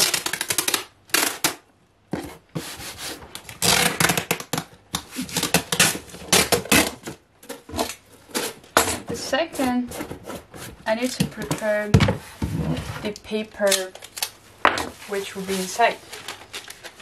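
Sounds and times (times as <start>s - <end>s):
cardboard and tape scraping: 2.2s - 14.3s, 14.9s - 17.0s.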